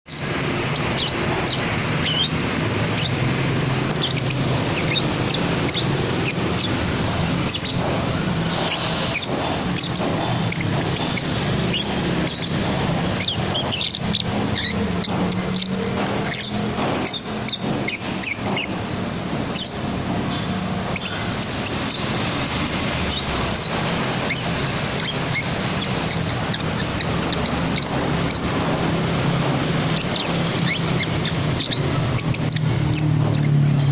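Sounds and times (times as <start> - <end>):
bird chirps and squeaks: 0.1 - 33.9.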